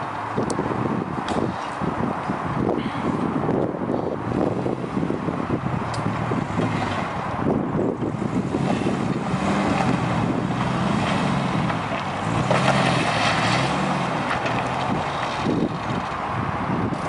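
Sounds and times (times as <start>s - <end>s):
car engine at low revs: 0.0s - 17.0s
wind buffeting microphone: 0.0s - 17.0s.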